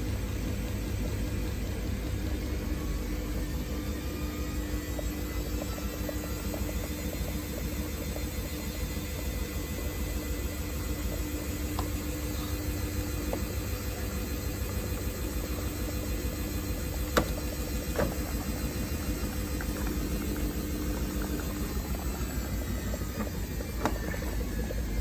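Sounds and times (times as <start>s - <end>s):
washing machine hum and rumble: 0.0s - 25.0s.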